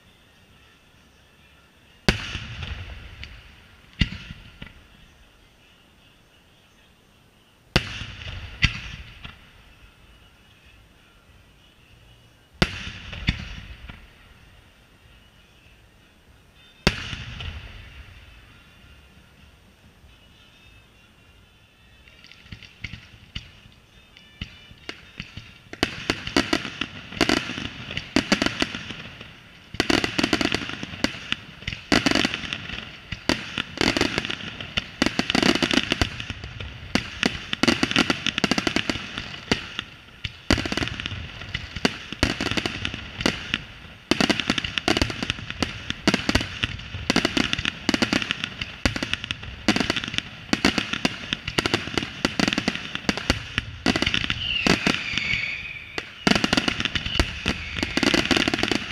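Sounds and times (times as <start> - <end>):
fireworks crackle: 0.0 - 58.9.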